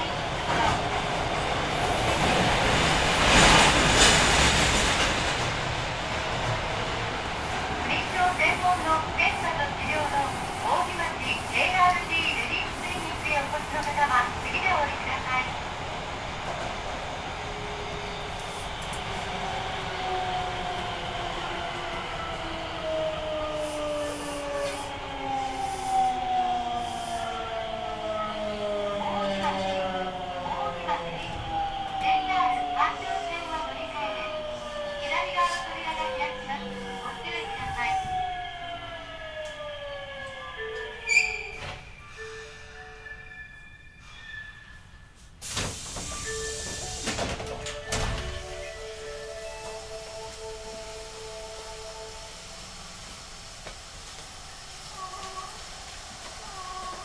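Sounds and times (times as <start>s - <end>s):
train wheel-on-rail noise: 0.0s - 57.0s.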